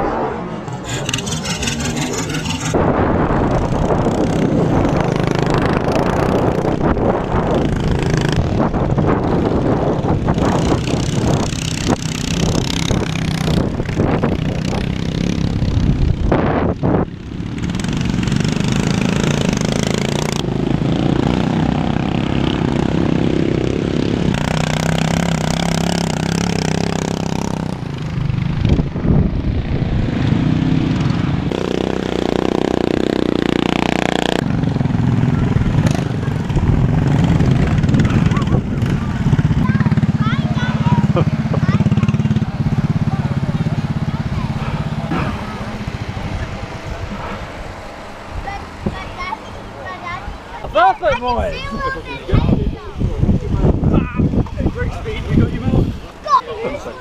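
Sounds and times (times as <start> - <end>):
lawn mower engine running hard: 0.4 - 50.7.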